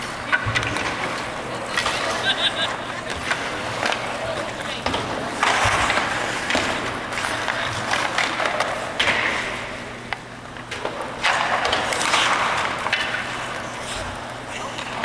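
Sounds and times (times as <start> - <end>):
skate blades scraping ice: 0.0 - 9.7, 11.0 - 15.0
sticks and pucks clacking: 0.0 - 15.0.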